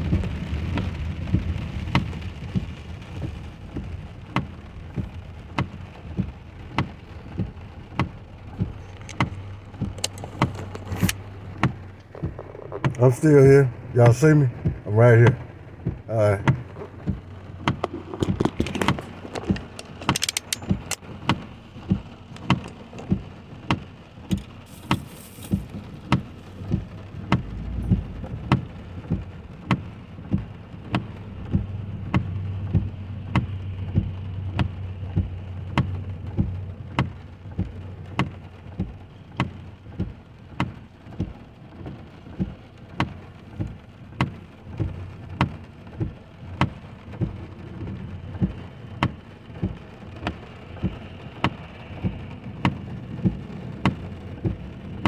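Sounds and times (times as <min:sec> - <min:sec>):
car engine idling: 0:00.0 - 0:55.0
rain on a car: 0:00.0 - 0:55.0
turn signal ticking: 0:00.0 - 0:55.0.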